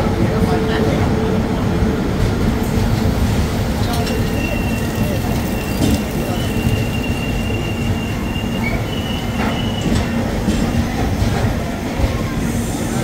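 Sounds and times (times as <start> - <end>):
train rumbling on rails: 0.0 - 13.0
rail joint clicks: 2.2 - 13.0.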